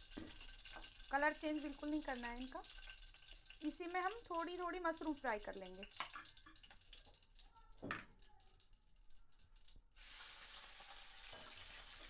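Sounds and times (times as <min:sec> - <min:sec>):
mushrooms sizzling in hot oil: 0:00.0 - 0:07.6, 0:09.9 - 0:12.0.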